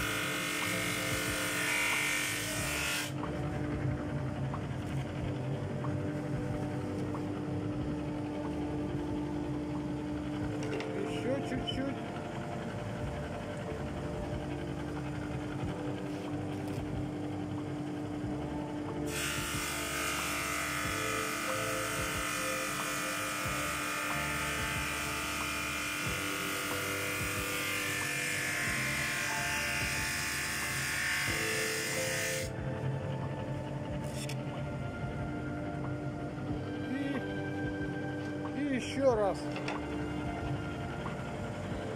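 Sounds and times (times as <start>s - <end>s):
drum sander humming: 0.0s - 41.9s.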